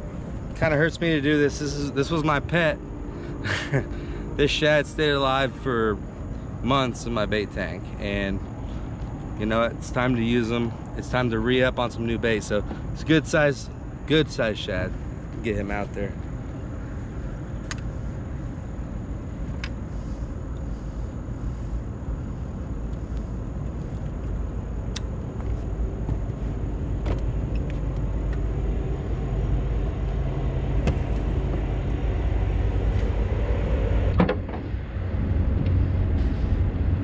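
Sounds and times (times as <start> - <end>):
low motor rumble: 0.0 - 37.0.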